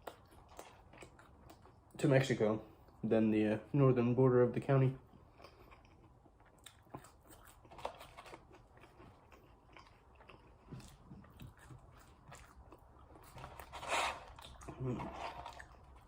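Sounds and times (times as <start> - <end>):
chewing french fries: 0.0 - 16.0.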